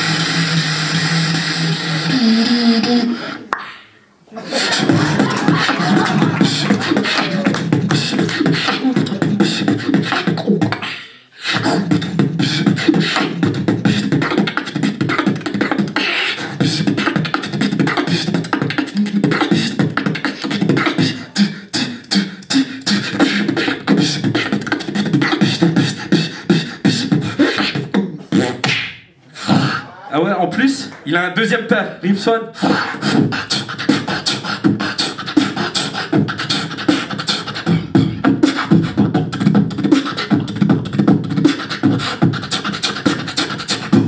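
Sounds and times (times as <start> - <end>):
amplified beatboxing: 0.0 - 44.0.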